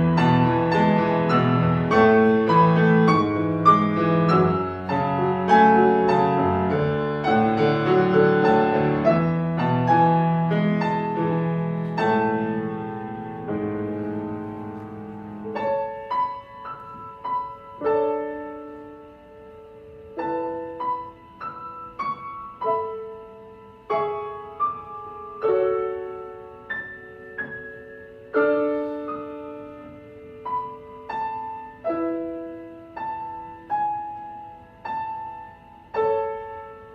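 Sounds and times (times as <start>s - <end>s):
solo piano playing: 0.0s - 36.9s.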